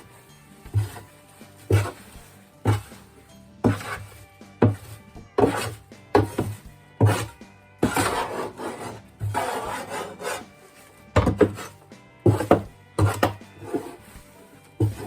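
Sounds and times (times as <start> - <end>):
rasping scrapes: 0.0 - 15.0.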